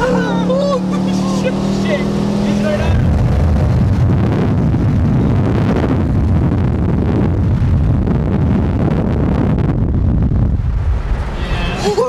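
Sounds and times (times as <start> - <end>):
car driving at speed: 0.0 - 12.0
wind buffeting microphone: 0.0 - 12.0.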